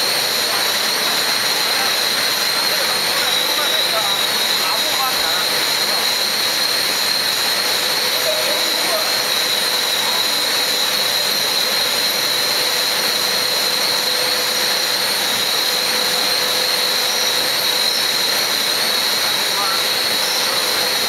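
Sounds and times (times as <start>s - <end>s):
high-pitched machine whine: 0.0s - 21.0s
loud industrial hiss: 0.0s - 21.0s.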